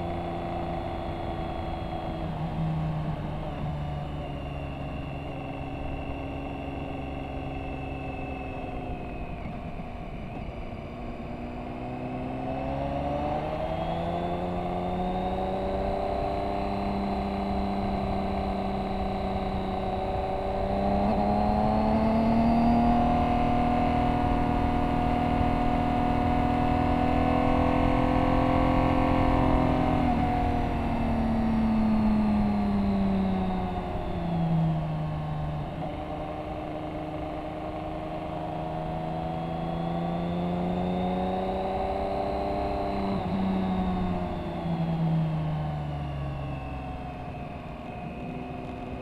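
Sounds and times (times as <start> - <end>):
motorcycle engine at speed: 0.0 - 49.0
wind and road noise: 0.0 - 49.0.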